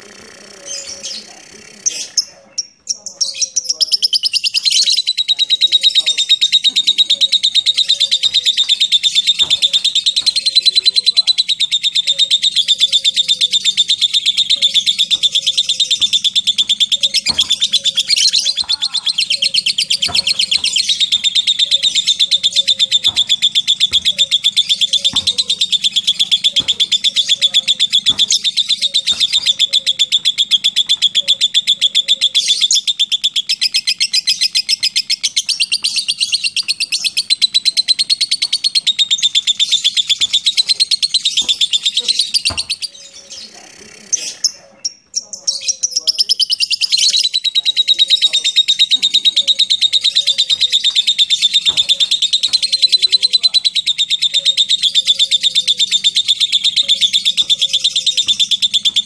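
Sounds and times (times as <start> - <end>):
bird chattering trill: 0.0 - 59.0.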